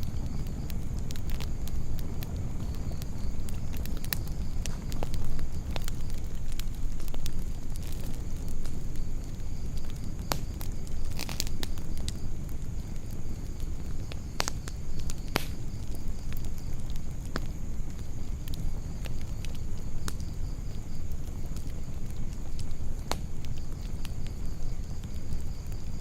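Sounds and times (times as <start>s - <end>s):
campfire crackling and popping: 0.0s - 26.0s
low fire rumble: 0.0s - 26.0s.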